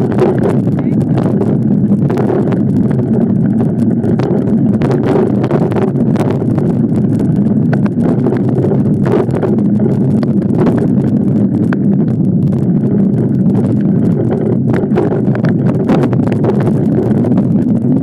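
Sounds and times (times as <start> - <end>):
bike rattling on rough ground: 0.0 - 18.0
wind buffeting microphone: 0.0 - 18.0.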